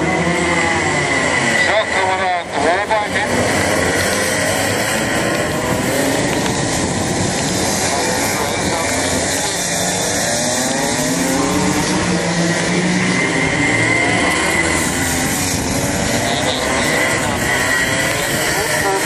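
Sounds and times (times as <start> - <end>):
go-kart engines revving: 0.0 - 19.0.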